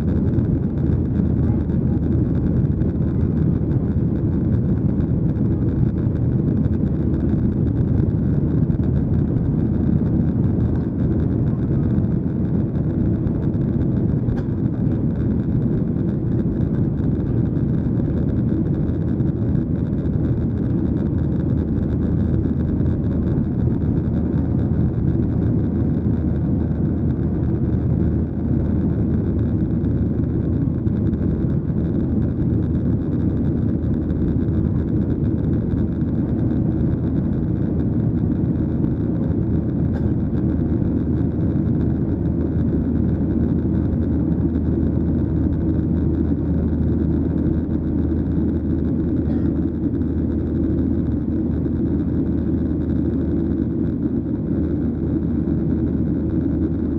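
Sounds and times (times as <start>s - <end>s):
airliner cabin jet engine drone: 0.0s - 56.9s.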